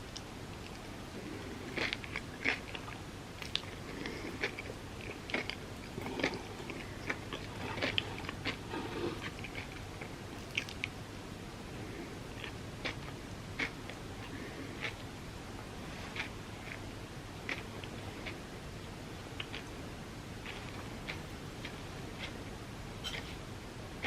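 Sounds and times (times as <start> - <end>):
chewing crepe: 0.1 - 11.0, 12.2 - 15.1, 15.9 - 19.8, 20.4 - 23.4.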